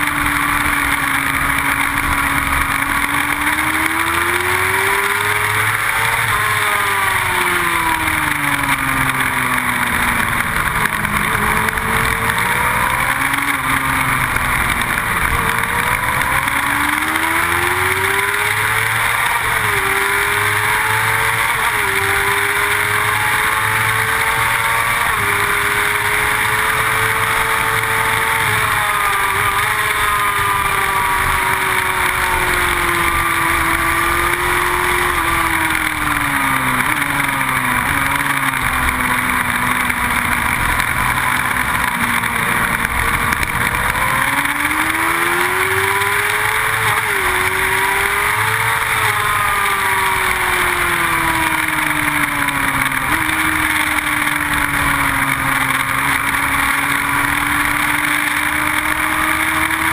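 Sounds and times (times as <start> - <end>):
motorcycle engine at speed: 0.0 - 59.9.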